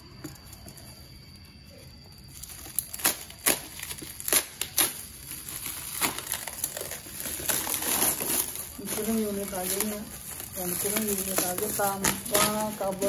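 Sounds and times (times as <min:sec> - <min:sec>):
plastic film crinkling: 0:02.1 - 0:13.0
plastic wrap crackling: 0:02.1 - 0:13.0.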